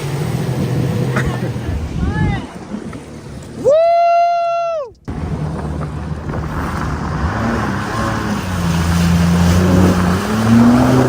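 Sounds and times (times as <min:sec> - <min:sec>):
jet ski engine: 0:00.0 - 0:11.0
wind and water rushing: 0:00.0 - 0:11.0.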